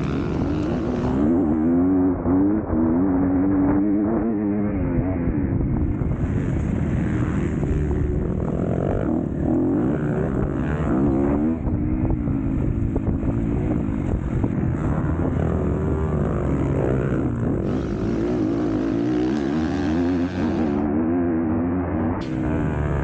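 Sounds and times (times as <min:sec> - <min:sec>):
motocross bike engine revving: 0:00.0 - 0:23.0
wind noise on microphone: 0:00.0 - 0:23.0.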